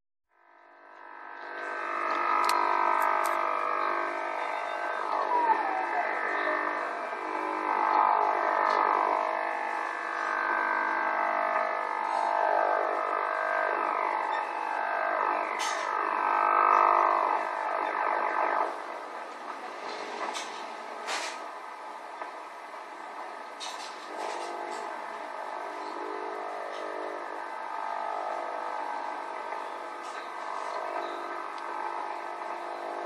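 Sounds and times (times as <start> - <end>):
radio interference tones: 1.1 - 33.0
downward-sliding radio sweeps: 1.2 - 33.0.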